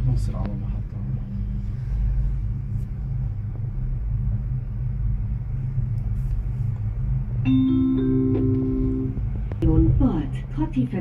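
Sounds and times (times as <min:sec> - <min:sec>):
gondola cabin rumble and hum: 0:00.0 - 0:11.0.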